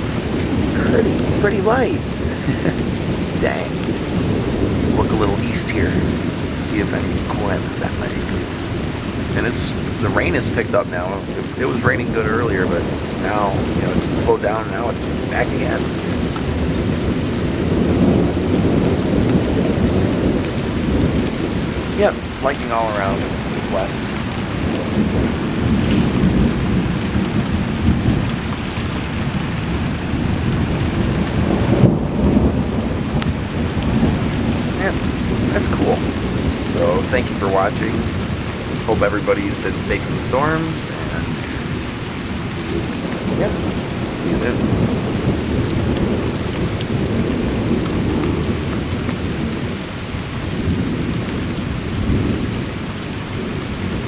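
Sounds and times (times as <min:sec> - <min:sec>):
steady rain: 0:00.0 - 0:54.0
thunder rumbling: 0:00.0 - 0:54.0.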